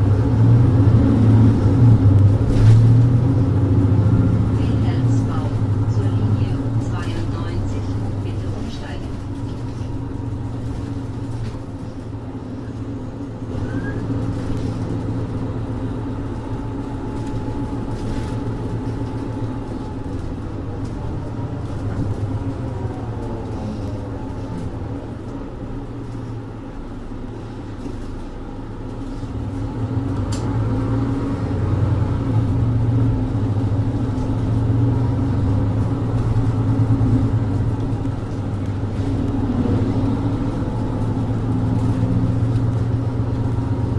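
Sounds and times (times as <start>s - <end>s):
bus diesel engine drone: 0.0s - 43.9s.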